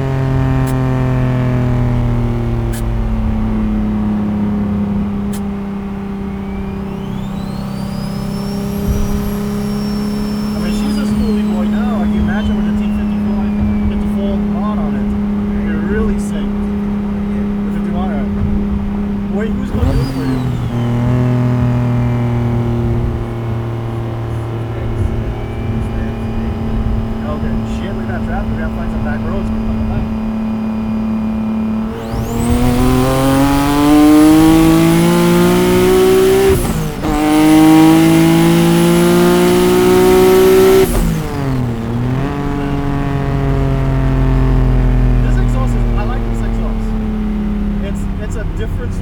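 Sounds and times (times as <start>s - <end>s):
car engine droning: 0.0s - 49.0s
turbo whine rising in pitch: 0.0s - 49.0s.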